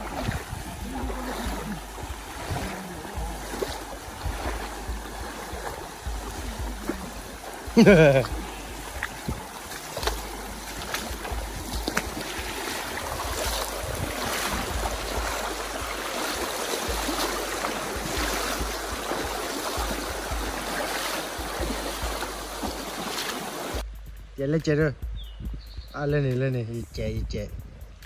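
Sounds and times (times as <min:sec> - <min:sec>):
stream water rushing: 0:00.0 - 0:23.8
wind rumble on microphone: 0:00.0 - 0:28.0.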